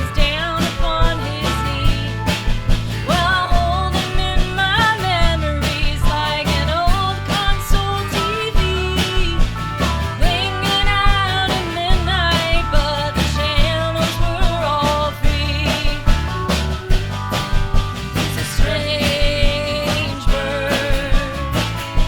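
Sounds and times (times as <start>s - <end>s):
country-rock band playing live: 0.0s - 22.0s.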